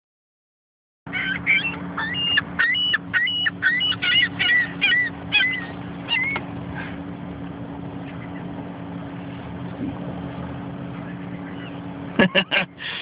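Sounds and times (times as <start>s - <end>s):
gulls squawking: 1.1s - 13.0s
steady low hum: 1.1s - 13.0s.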